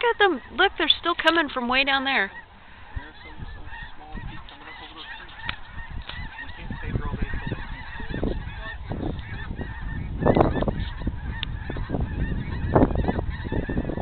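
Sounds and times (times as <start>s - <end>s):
geese honking: 0.0s - 14.0s
wind buffeting microphone: 0.0s - 14.0s.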